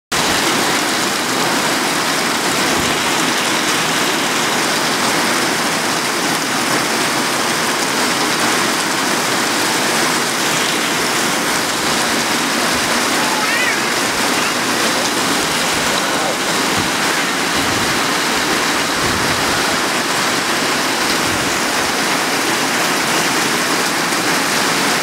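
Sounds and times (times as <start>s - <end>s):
heavy rain pouring: 0.1s - 25.0s.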